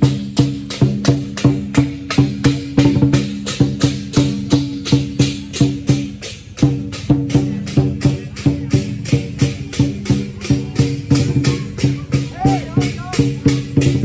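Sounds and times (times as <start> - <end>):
cymbals clashing: 0.0 - 14.0
large drum beating: 0.0 - 14.0.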